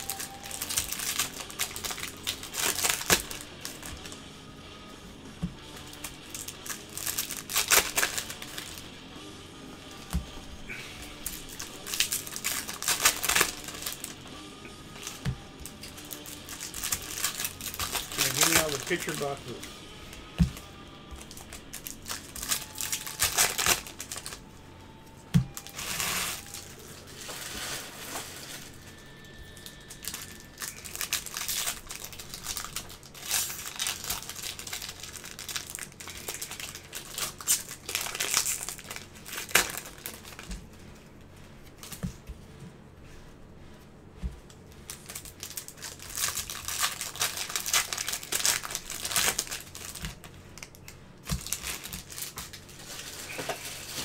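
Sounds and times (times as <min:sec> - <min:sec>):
plastic wrappers crinkling and tearing: 0:00.0 - 0:09.0, 0:09.8 - 0:42.3, 0:44.4 - 0:54.0.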